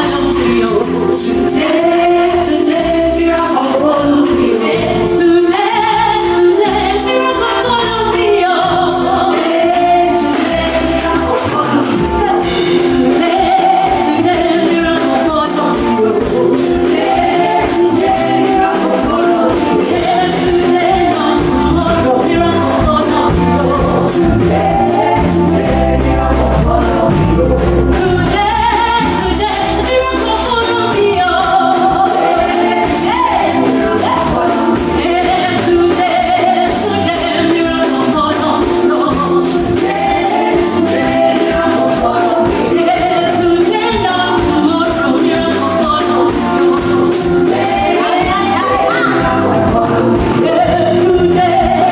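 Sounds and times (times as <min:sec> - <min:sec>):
band accompaniment with steady beat: 0:00.0 - 0:51.9
voices singing together: 0:00.0 - 0:51.9.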